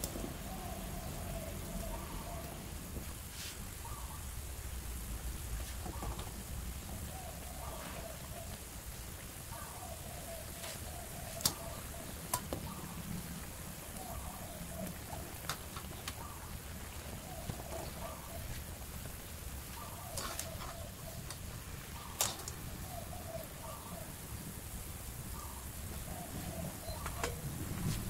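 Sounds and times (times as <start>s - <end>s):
water boiling in a wok: 0.0s - 28.0s.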